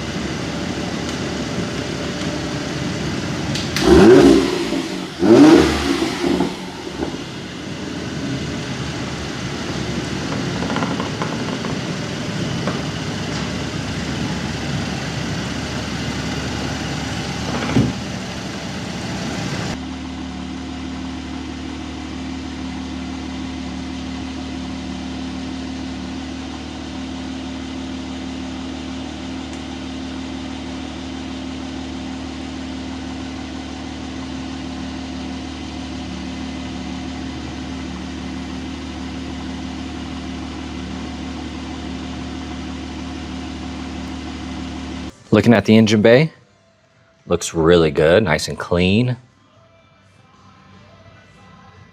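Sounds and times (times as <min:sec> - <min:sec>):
car engine revving and idling: 0:00.0 - 0:45.7.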